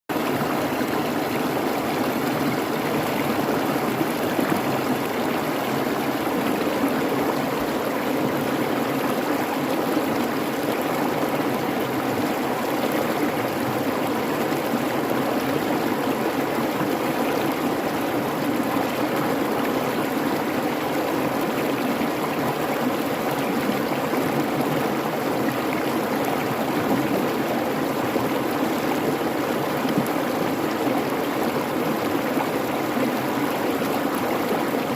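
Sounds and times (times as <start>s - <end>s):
creek babbling: 0.1s - 34.9s.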